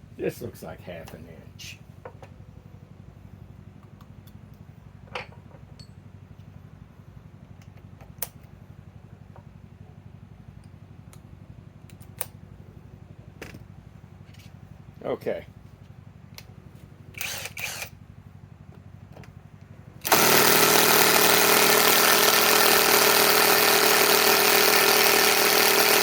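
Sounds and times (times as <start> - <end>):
low background hum: 0.0 - 22.4.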